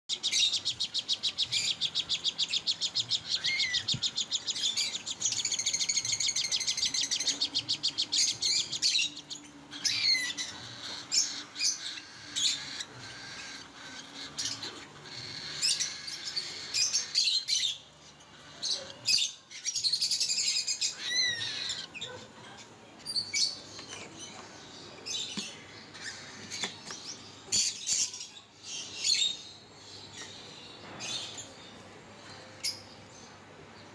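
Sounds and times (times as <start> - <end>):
parrots chattering and calling: 0.1 - 33.3.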